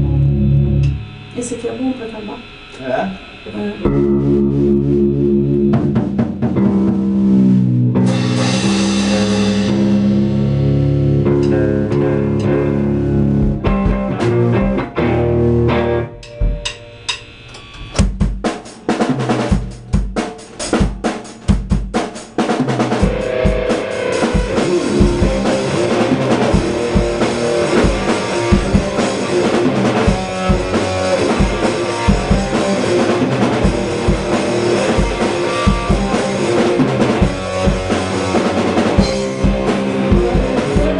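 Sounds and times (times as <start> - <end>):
electric guitar chords: 0.0 - 20.9, 22.4 - 40.9
rock drum kit: 0.0 - 40.9.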